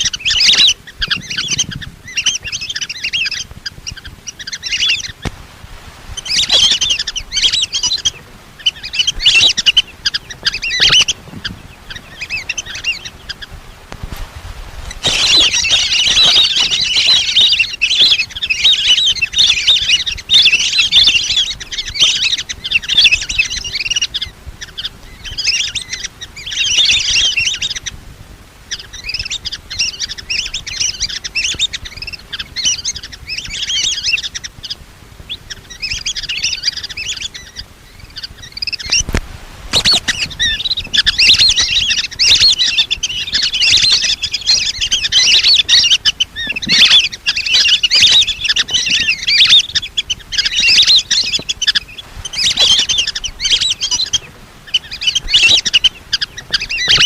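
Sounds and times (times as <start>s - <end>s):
ducks chattering whistles: 0.0s - 5.3s, 6.1s - 14.0s, 14.8s - 28.0s, 28.6s - 57.0s.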